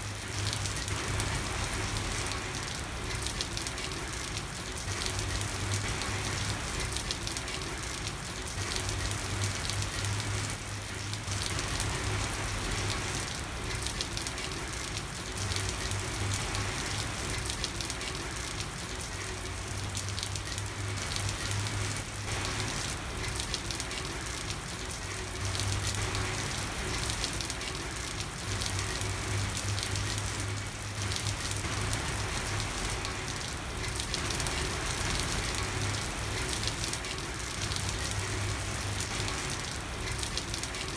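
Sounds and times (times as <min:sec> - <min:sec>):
rain pattering on a street: 0:00.0 - 0:40.9.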